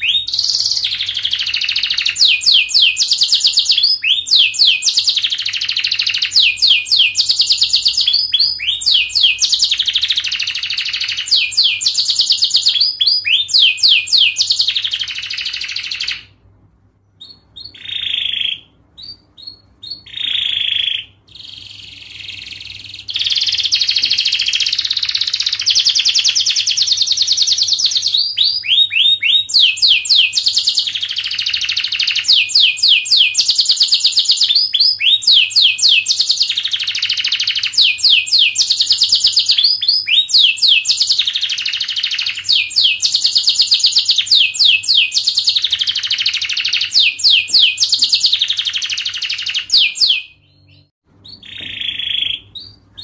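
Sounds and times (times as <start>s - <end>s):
canary singing trills: 0.0s - 16.4s, 17.0s - 53.0s.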